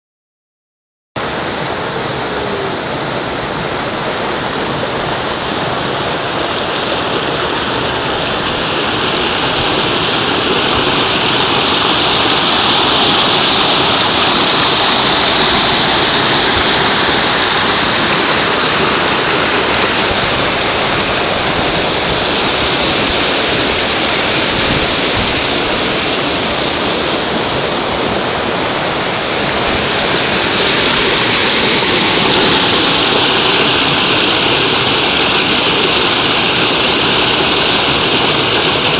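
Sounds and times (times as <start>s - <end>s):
river rapids rushing: 1.2s - 38.9s.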